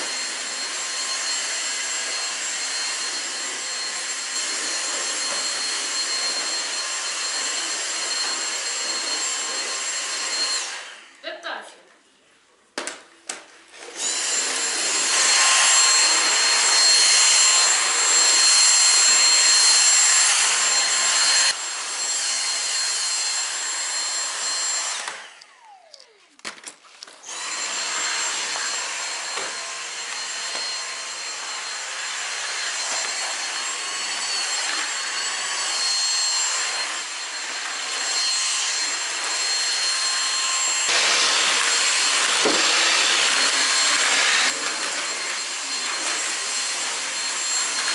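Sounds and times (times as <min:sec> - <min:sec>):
stick vacuum cleaner whining: 0:00.0 - 0:11.3, 0:12.8 - 0:47.9.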